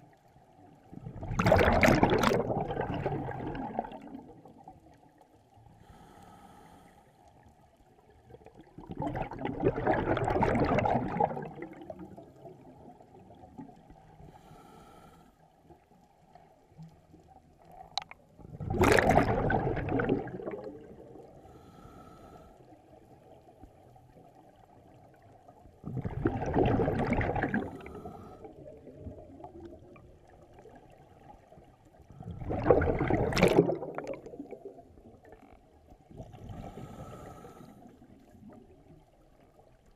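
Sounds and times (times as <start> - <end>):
low water rumble: 0.0 - 39.9
exhaled bubbles rushing underwater: 0.6 - 5.2, 8.0 - 14.2, 16.8 - 21.5, 23.1 - 39.9.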